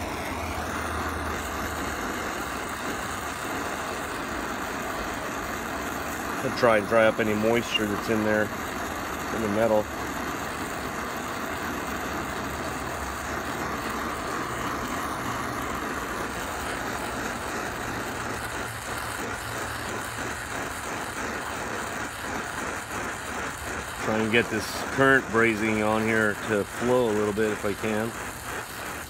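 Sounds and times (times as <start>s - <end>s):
gas torch flame hissing: 0.0s - 29.0s.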